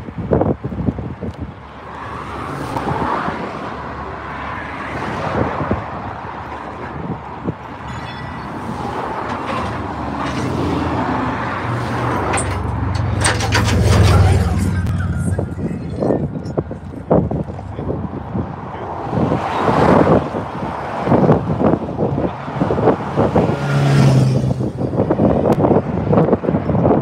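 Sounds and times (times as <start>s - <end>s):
road traffic noise: 0.0s - 27.0s
vehicle engine rumble: 0.0s - 27.0s.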